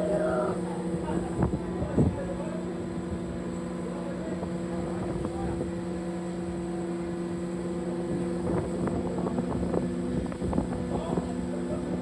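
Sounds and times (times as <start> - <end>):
boat machinery droning: 0.0 - 12.0.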